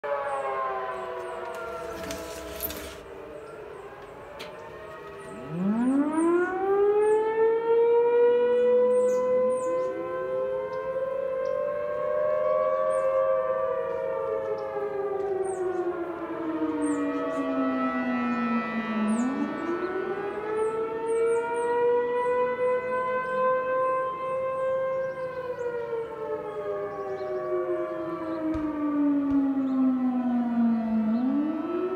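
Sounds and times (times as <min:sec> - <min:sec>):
distant sirens winding down: 0:00.0 - 0:31.9
mechanical siren wailing: 0:00.0 - 0:31.9.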